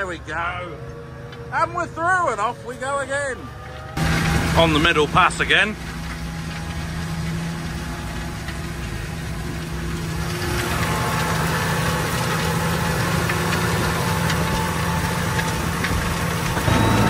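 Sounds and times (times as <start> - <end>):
harrow discs working soil: 0.0 - 17.0
tractor engine under load: 0.0 - 17.0.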